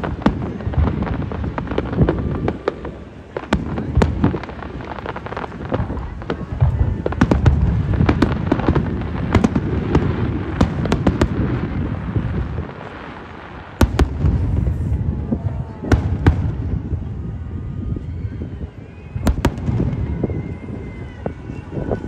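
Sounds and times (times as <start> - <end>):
fireworks cracking and booming: 0.0 - 22.0.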